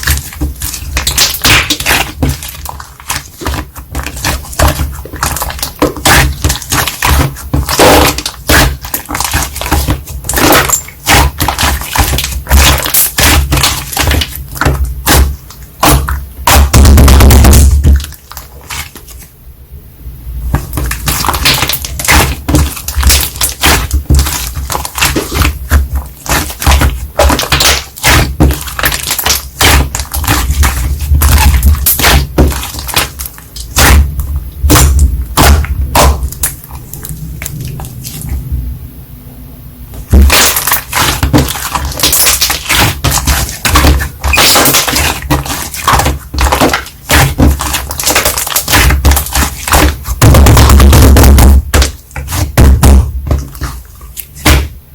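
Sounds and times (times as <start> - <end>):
slime crackling and popping: 0.0 - 19.2, 20.5 - 38.3, 40.0 - 54.8.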